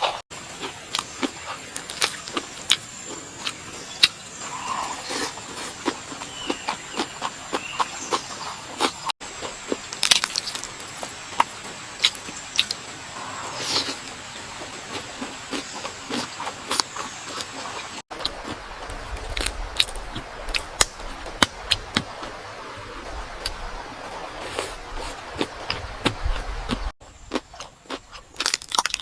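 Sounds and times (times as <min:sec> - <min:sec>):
crunchy chewing: 0:00.0 - 0:22.4, 0:24.4 - 0:29.0.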